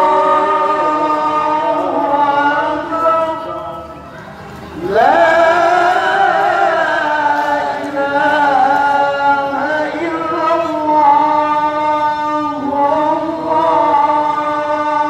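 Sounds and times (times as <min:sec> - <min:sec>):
person chanting long ornamented notes: 0:00.0 - 0:15.0.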